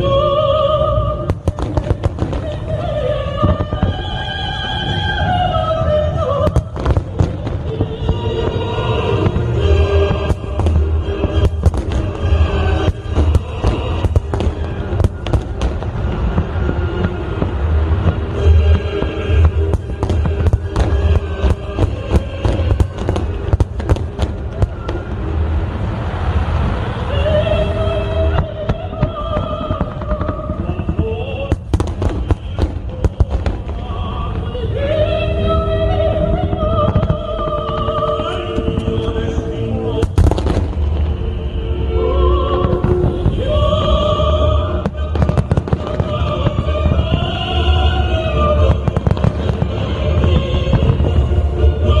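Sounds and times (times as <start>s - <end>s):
music playing: 0.0s - 25.9s, 26.8s - 52.0s
continuous low rumble: 0.0s - 52.0s
fireworks bursting: 0.0s - 52.0s.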